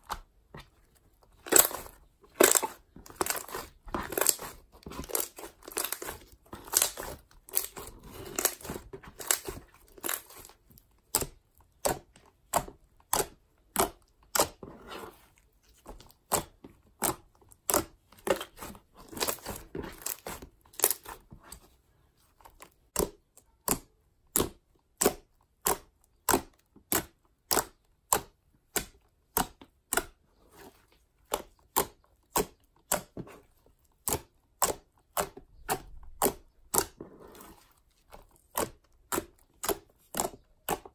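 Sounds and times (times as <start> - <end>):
slime squishing: 0.0 - 40.9.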